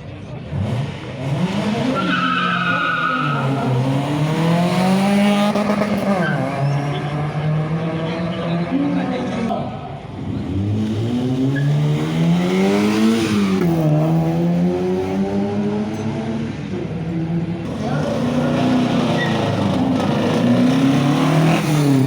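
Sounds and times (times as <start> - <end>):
rally car engine revving: 0.2 - 22.0.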